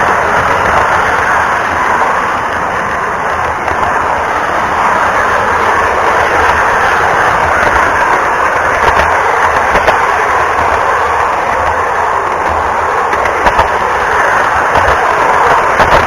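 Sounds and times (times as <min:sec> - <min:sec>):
model train wheels rumbling on rails: 0:00.0 - 0:16.0
sharp track clicks: 0:00.0 - 0:16.0.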